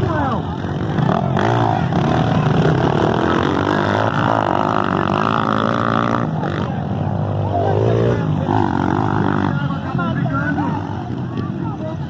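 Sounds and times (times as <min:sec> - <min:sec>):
motocross motorcycle engines racing: 0:00.0 - 0:12.0.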